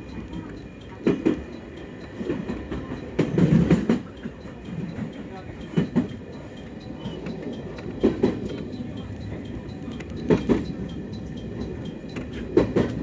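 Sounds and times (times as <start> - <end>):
train running rumble: 0.0 - 13.0
wheels clicking over rail joints: 0.0 - 13.0.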